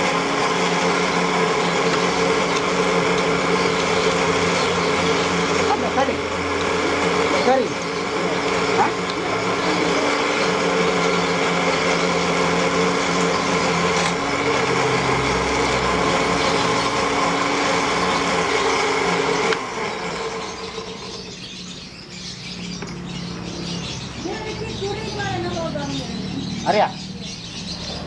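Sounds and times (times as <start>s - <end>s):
electric blender grinding: 0.0s - 27.7s.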